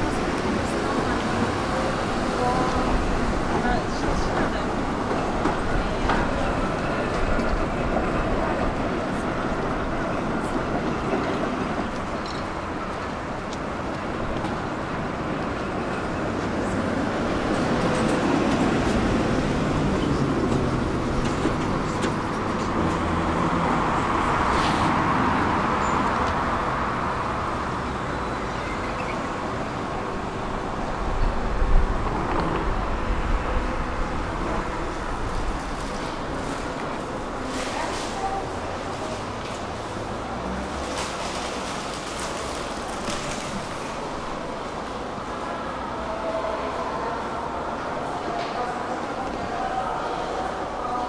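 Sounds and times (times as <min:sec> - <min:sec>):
street traffic: 0:00.0 - 0:51.0
tram passing: 0:00.0 - 0:51.0.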